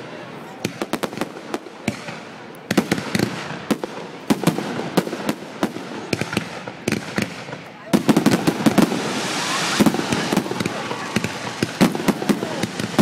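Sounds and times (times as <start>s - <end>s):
fireworks crackle: 0.0s - 13.0s.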